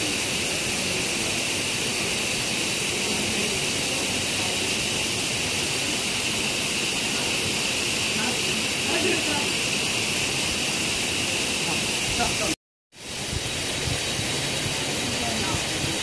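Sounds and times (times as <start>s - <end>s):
high-pitched hiss: 0.0s - 16.0s
stream water rushing: 0.0s - 16.0s.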